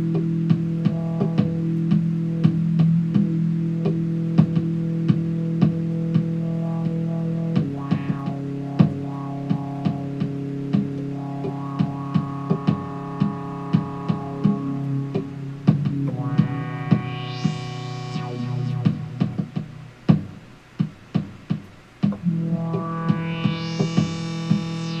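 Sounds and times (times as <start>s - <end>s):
sustained synthesizer chords: 0.0s - 20.6s, 22.2s - 25.0s
steady beat of sharp hits: 4.4s - 25.0s.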